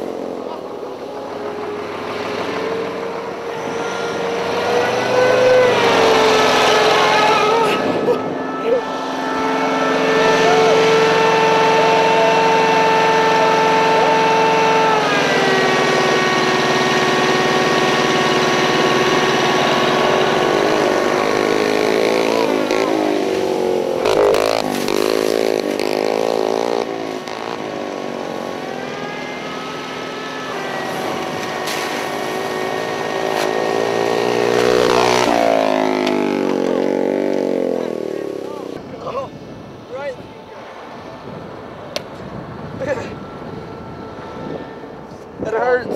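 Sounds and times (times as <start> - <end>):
dirt bike engine revving: 0.0 - 38.8.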